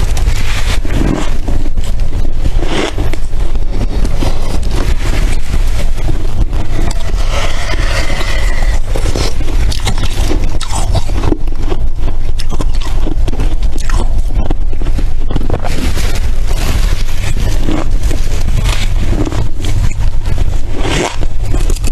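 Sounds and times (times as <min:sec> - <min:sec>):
frost crunching: 0:00.0 - 0:21.9
low rumble: 0:00.0 - 0:21.9.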